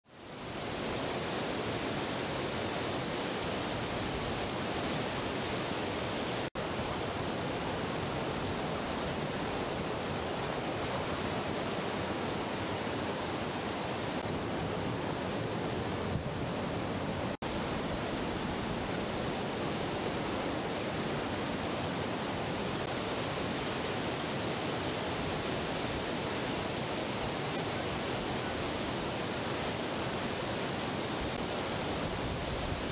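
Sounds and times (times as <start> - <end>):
stream and waterfall over rocks: 0.1 - 32.9.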